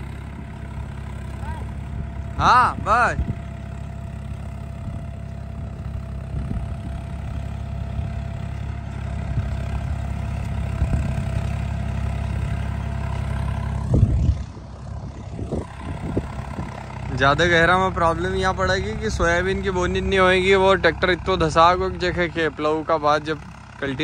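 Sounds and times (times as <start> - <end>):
tractor diesel engine: 0.0 - 24.0.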